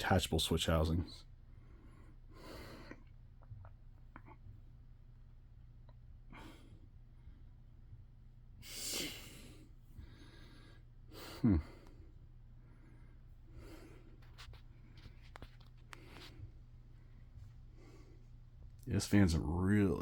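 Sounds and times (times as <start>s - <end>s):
ceiling fan humming: 0.0s - 20.0s.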